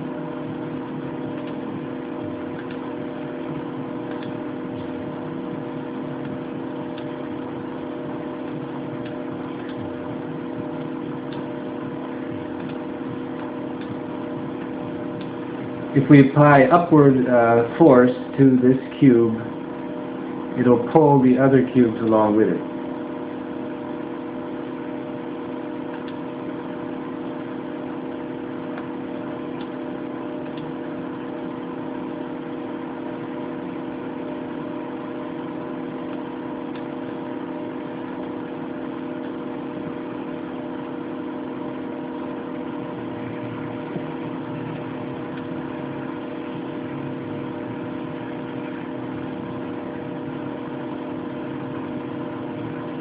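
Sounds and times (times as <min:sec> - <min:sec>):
steady machine hum: 0:00.0 - 0:53.0.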